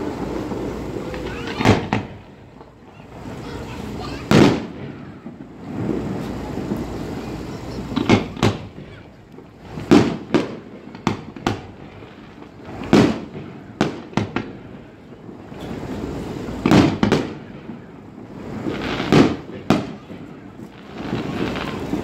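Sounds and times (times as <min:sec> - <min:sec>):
fireworks bursting with echo: 0:00.0 - 0:22.0.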